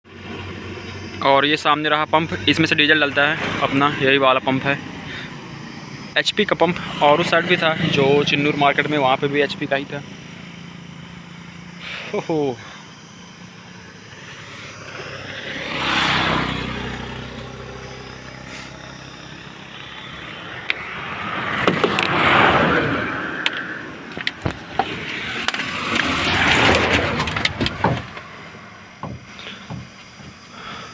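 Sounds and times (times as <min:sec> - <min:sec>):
vehicles passing by: 0:00.0 - 0:30.9.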